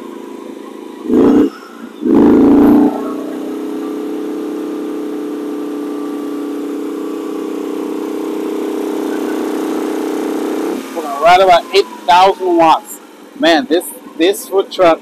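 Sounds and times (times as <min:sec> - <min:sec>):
generator engine hum: 0:00.0 - 0:15.0.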